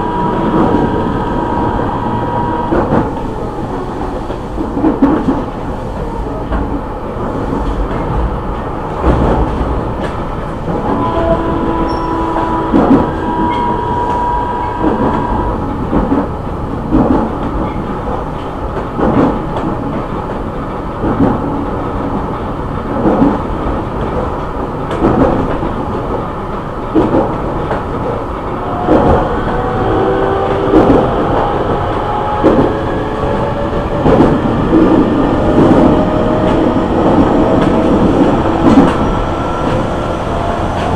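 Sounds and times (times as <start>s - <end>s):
train rolling rumble: 0.0s - 40.9s.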